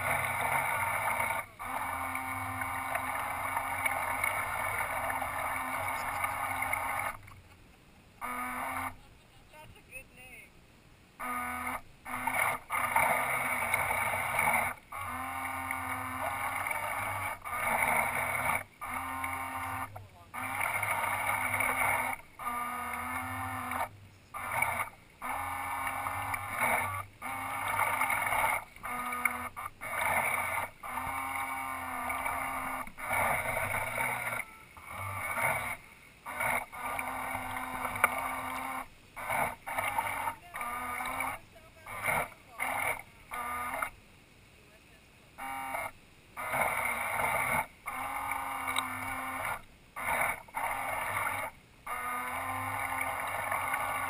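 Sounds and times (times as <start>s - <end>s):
model boat motors whining: 0.0s - 9.2s, 11.2s - 44.0s, 45.2s - 54.0s.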